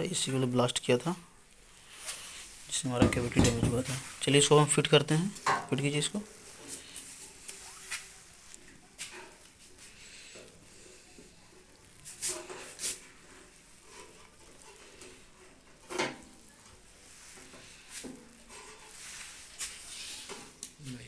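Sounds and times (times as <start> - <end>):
faint scraping and handling: 1.5 - 21.0.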